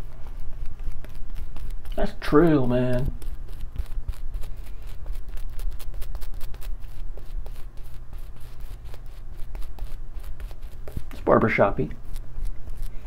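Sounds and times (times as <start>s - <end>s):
shaving brush scratchy strokes: 0.0s - 13.0s.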